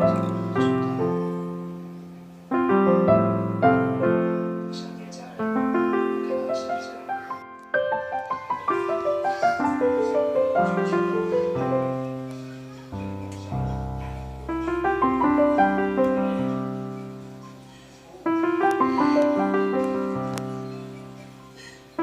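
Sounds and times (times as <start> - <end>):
piano broken chords: 0.0 - 22.0.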